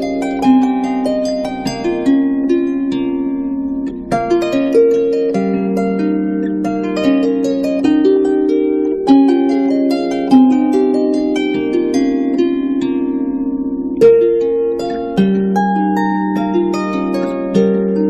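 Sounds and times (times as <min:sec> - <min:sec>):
harp playing plucked melody: 0:00.0 - 0:18.0.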